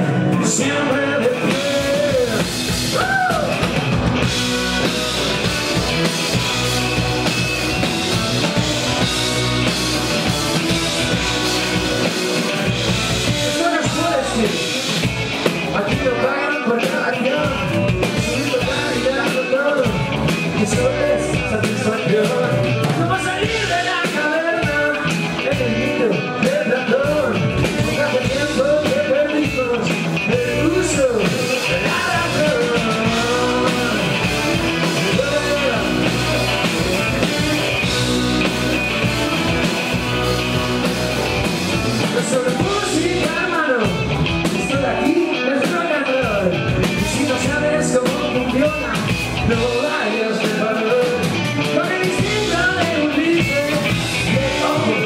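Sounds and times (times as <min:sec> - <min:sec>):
drum kit: 0:00.0 - 0:55.0
electric guitars: 0:00.0 - 0:55.0
lead vocalist singing: 0:00.0 - 0:55.0.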